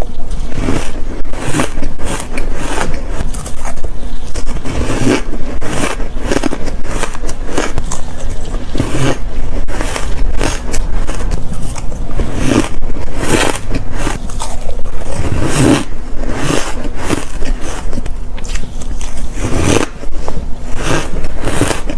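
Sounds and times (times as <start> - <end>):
ice being crunched: 0.0 - 20.1, 20.7 - 21.9.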